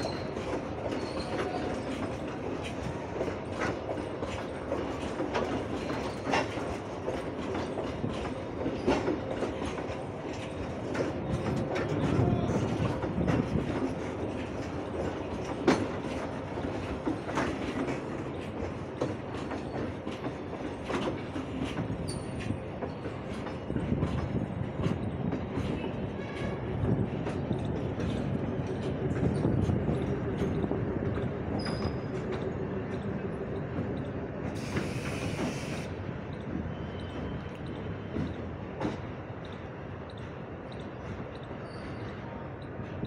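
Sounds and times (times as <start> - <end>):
freight train rolling past: 0.0 - 43.0
wheels clicking over rail joints: 0.0 - 43.0.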